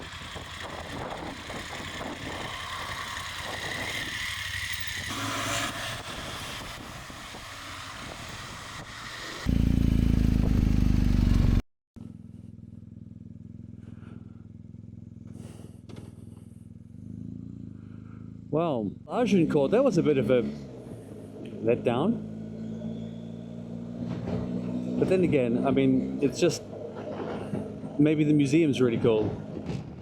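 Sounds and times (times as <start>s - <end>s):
wind and road noise: 0.0s - 11.6s, 14.6s - 30.0s
motorcycle engine running: 0.0s - 30.0s.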